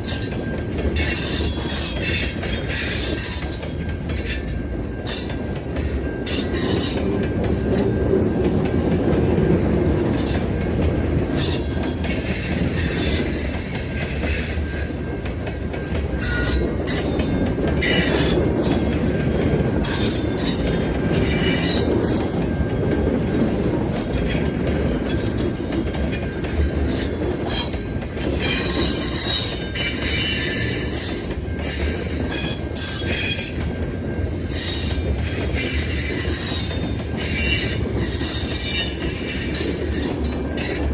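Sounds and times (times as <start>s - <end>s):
train wheels squealing: 0.0s - 8.4s, 9.9s - 40.9s
train rumbling on rails: 0.0s - 40.9s.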